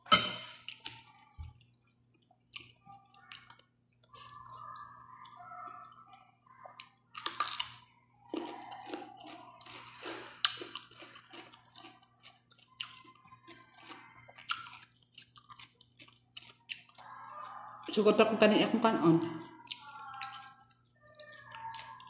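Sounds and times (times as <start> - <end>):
crunching and chewing vegetable: 0.0 - 22.0.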